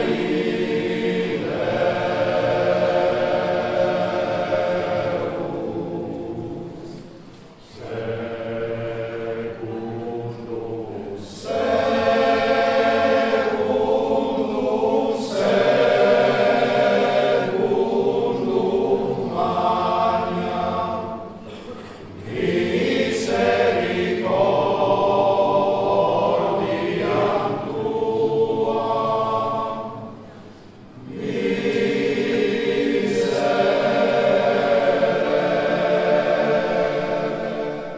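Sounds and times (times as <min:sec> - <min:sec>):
choir singing: 0:00.0 - 0:37.9.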